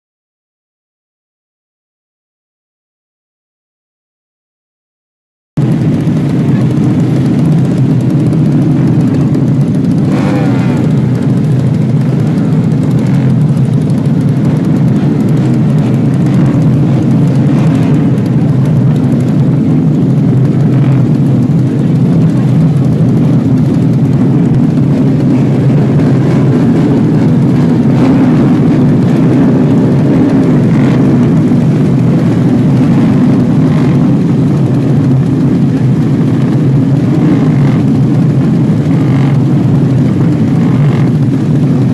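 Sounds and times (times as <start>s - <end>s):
motorcycle engines droning: 5.6s - 41.9s.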